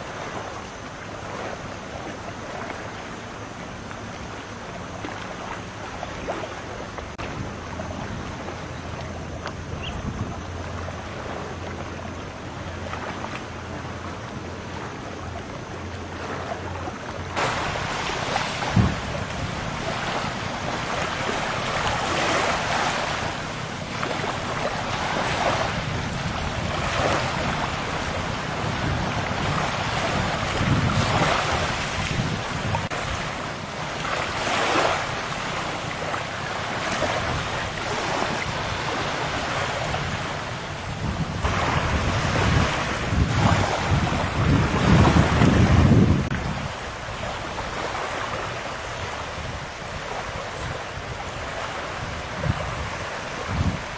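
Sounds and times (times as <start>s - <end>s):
sea waves washing in: 0.0s - 53.9s
wind on microphone: 5.9s - 53.9s.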